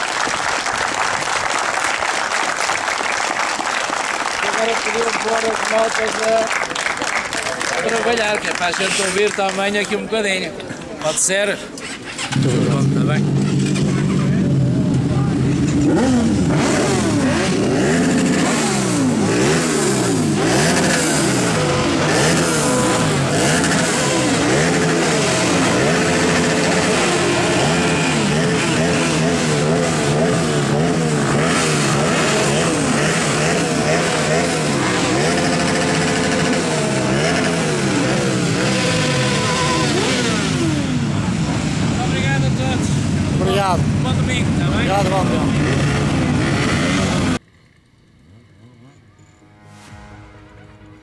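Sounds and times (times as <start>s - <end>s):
motorcycle engines revving: 4.4s - 51.0s.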